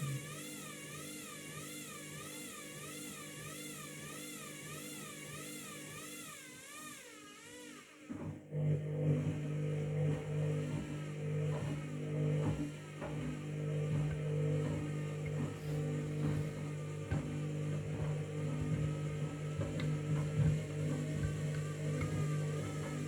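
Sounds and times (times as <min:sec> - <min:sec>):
washing machine motor humming: 0:00.0 - 0:23.0.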